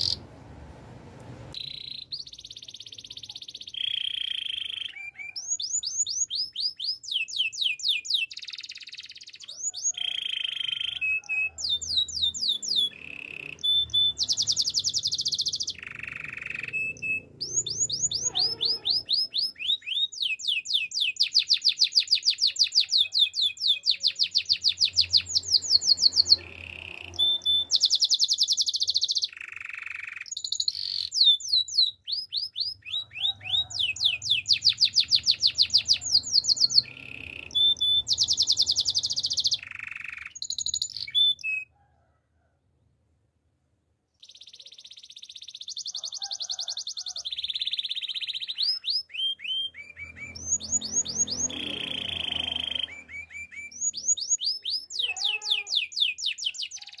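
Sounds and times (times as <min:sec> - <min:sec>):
canary singing trills: 0:00.0 - 0:00.3, 0:01.5 - 0:41.7, 0:44.2 - 0:57.0.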